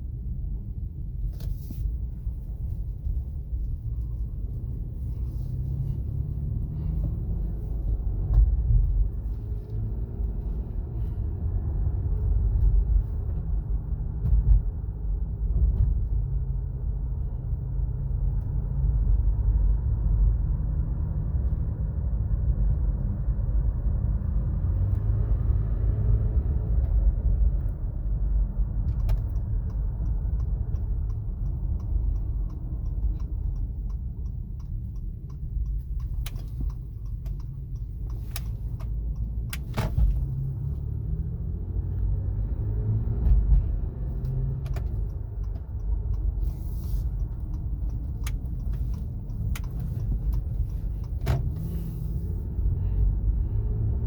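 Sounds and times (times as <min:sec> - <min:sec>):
road and drivetrain rumble: 0:00.0 - 0:54.0.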